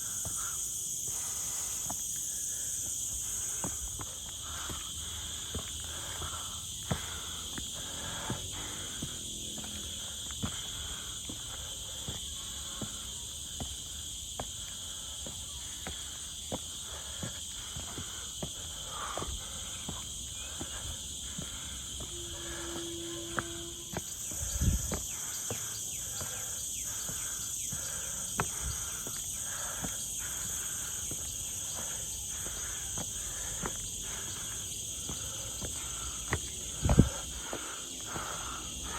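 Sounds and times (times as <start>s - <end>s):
footsteps on trail: 0.0s - 38.9s
insect chorus drone: 0.0s - 38.9s.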